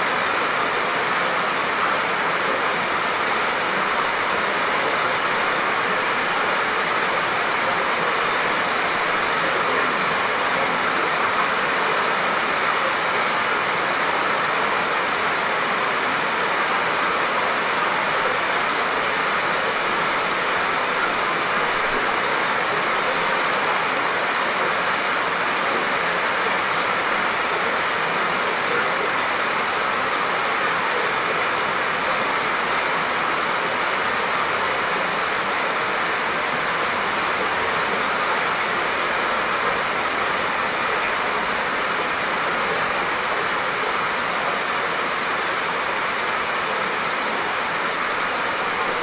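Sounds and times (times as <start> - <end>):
light rain falling: 0.0 - 49.0.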